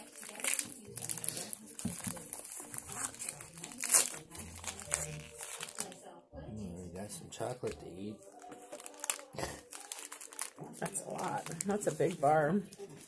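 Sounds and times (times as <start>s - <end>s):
plastic wrapper crinkling: 0.0s - 6.1s, 7.4s - 13.0s.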